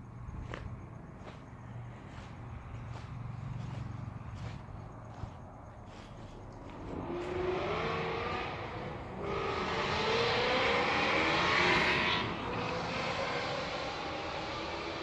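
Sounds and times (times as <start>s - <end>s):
motor vehicle passing: 0.4s - 15.0s.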